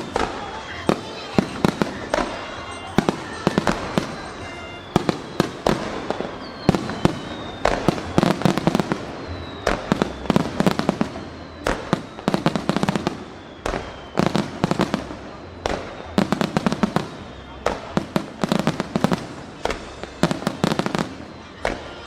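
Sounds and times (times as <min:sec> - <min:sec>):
fireworks bursting: 0:00.0 - 0:22.0
fireworks whistling: 0:00.0 - 0:22.0.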